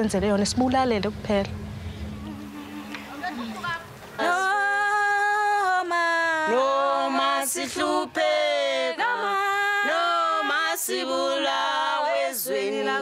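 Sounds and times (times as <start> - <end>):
women singing unaccompanied: 2.2 - 13.0.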